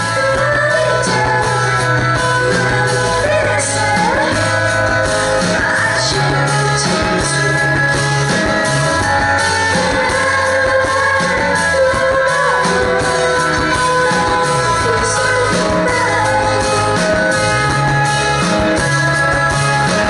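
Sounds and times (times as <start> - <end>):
bass line: 0.0 - 20.0
live rock band playing: 0.0 - 20.0
woman singing into microphone: 0.0 - 20.0.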